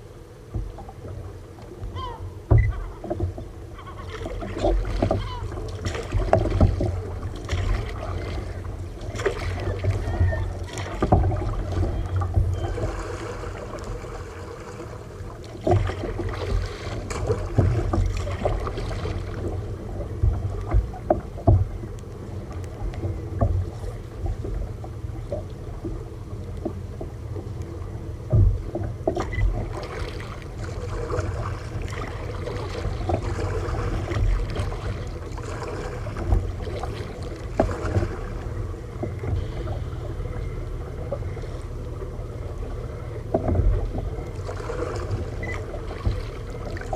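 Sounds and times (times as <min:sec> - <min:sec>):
water splashing against hull: 0:00.0 - 0:46.9
wind rumbling on microphone: 0:00.0 - 0:46.9.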